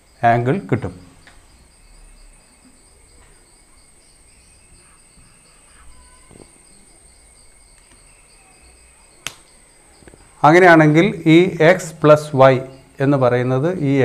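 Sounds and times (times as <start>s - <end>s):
crickets chirping: 0.0s - 14.0s
high insect drone: 0.0s - 14.0s.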